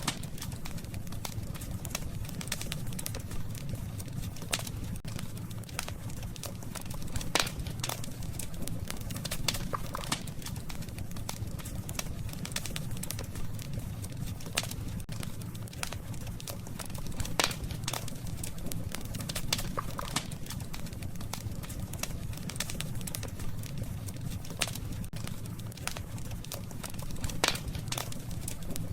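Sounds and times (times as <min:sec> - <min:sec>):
campfire crackling and popping: 0:00.0 - 0:28.9.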